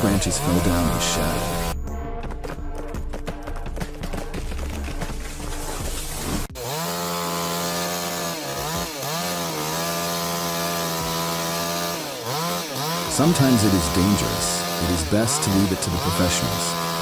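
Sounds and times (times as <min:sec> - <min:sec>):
chainsaw running at high revs: 0:00.0 - 0:01.8, 0:05.1 - 0:17.0.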